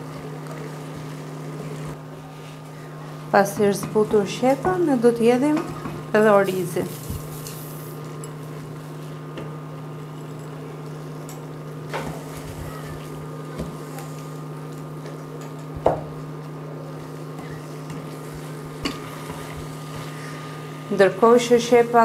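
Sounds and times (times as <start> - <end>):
induction cooker hum: 0.0 - 22.0.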